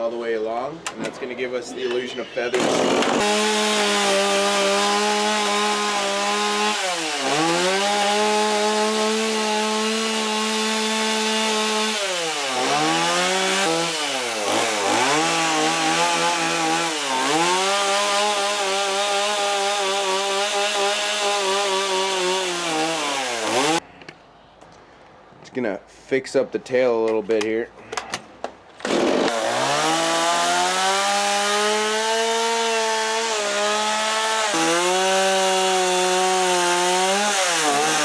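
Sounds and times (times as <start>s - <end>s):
chainsaw cutting wood: 2.5s - 23.8s, 28.8s - 38.0s.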